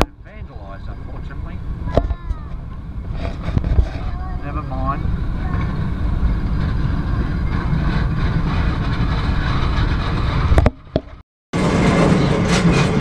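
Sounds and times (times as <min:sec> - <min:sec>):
moving train rumble: 0:00.0 - 0:13.0.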